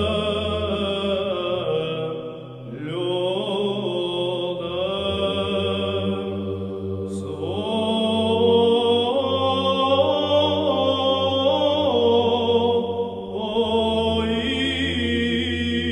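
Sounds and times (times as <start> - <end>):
low vocal drone: 0.0 - 15.9.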